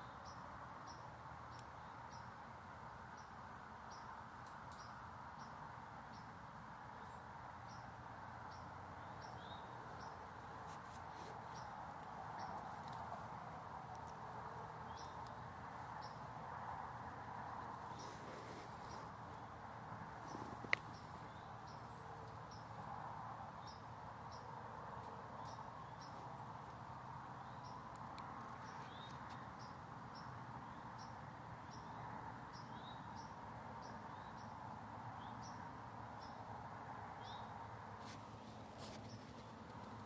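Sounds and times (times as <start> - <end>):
steady low hiss: 0.0 - 40.0.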